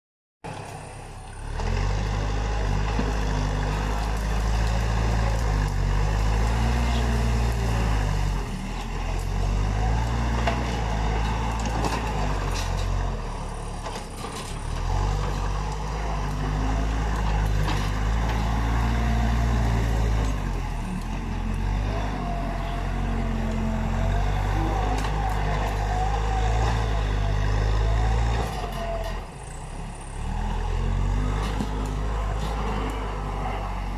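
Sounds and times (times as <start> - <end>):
backhoe diesel engine working: 0.4 - 33.9.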